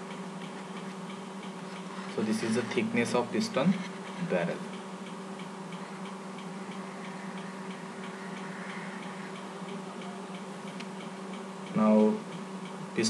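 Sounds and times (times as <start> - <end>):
light regular ticking: 0.0 - 13.0
low room hum: 0.0 - 13.0.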